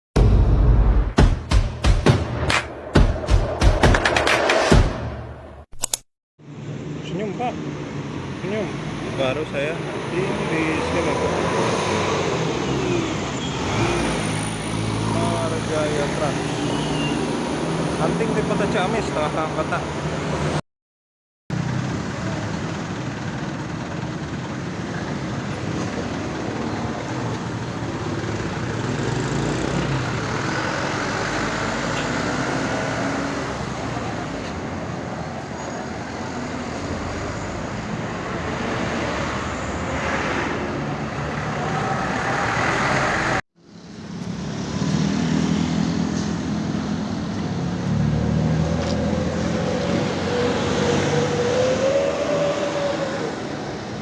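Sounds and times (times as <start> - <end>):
large vehicles passing: 6.4 - 20.6, 21.5 - 54.0.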